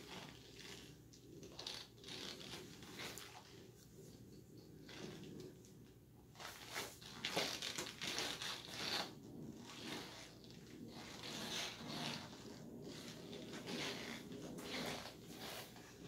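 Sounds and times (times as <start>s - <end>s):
person rustling and shuffling: 0.0s - 16.0s.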